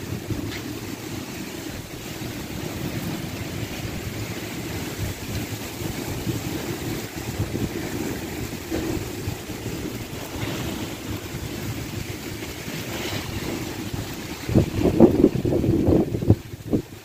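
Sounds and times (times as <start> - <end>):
heavy rain falling: 0.0 - 17.0
wind rumbling on microphone: 0.0 - 17.0.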